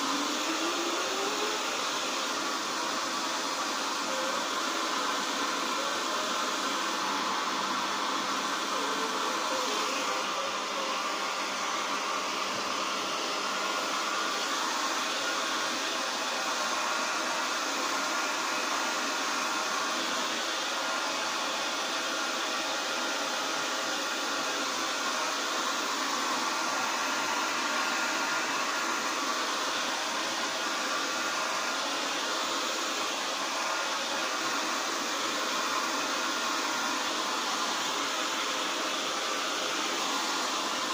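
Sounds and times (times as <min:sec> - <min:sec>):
hair dryer blowing air: 0:00.0 - 0:40.9.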